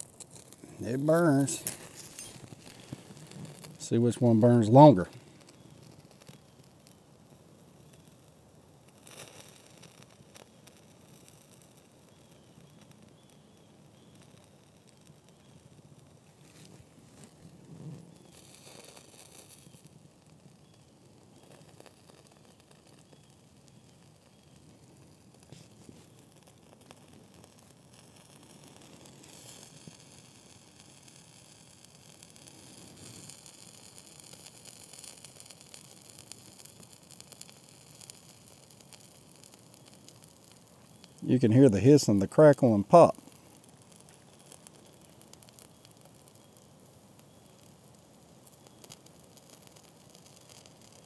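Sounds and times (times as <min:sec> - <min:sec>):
fire starters burning with hiss and crackle: 0:00.0 - 0:51.0.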